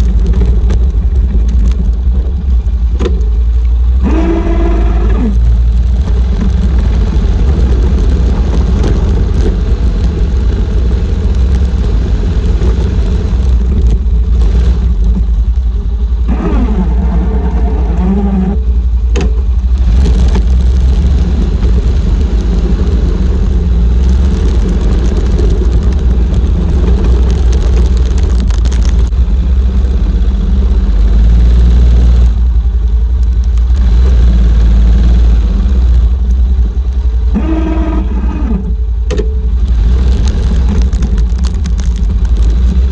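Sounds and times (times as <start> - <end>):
atv engine running under load: 0.0 - 42.9.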